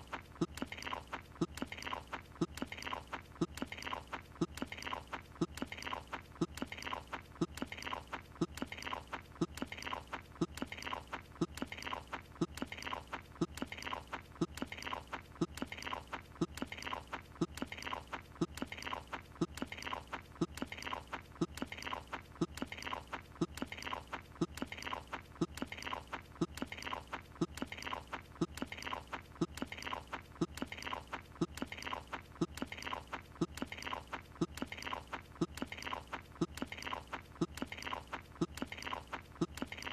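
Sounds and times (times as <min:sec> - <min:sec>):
cartoon chewing and biting: 0:00.0 - 0:39.9.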